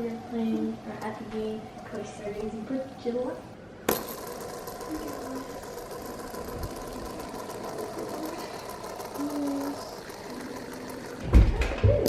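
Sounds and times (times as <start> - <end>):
fidget spinner whirring: 0.0 - 12.0.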